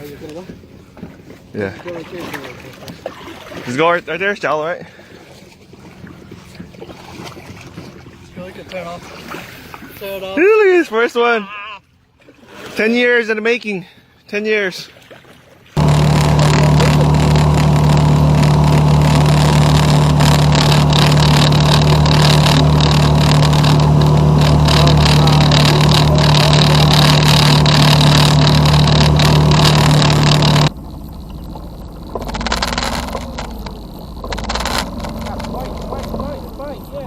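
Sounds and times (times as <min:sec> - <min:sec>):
boat motor droning: 0:00.0 - 0:04.3, 0:04.9 - 0:10.0, 0:15.8 - 0:37.0.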